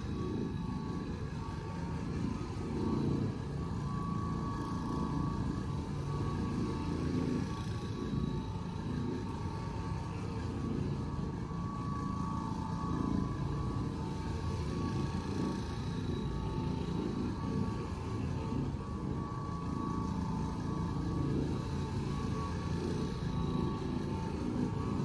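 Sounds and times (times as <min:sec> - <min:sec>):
floor machine motor hum: 0:00.0 - 0:25.0.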